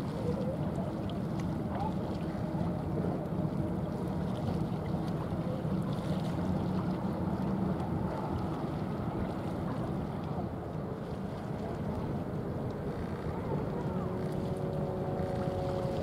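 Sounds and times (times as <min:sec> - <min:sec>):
ship diesel engine drone: 0:00.0 - 0:16.0.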